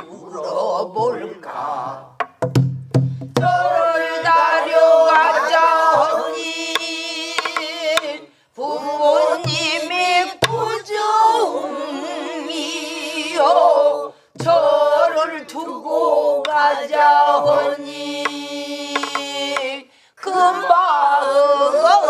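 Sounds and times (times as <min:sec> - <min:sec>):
person singing with vibrato: 0:03.4 - 0:22.0.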